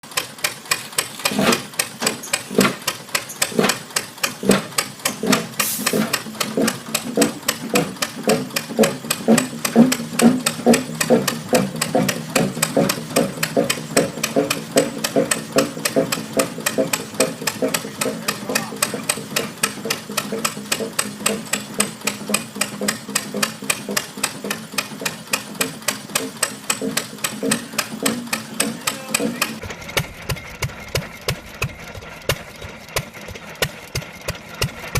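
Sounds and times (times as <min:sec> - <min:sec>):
old engine knocking: 0:00.0 - 0:34.9.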